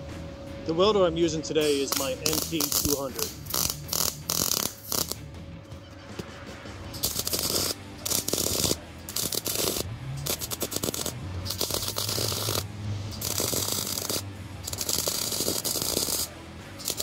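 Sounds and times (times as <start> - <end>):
welding arc crackling and sizzling: 1.6 - 5.3, 6.9 - 17.0.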